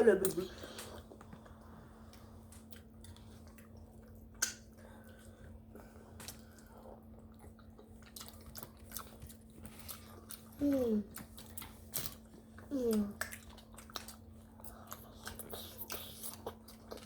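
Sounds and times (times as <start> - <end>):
steady low hum: 0.0 - 17.0
wet chewing and mouth sounds: 0.1 - 17.0.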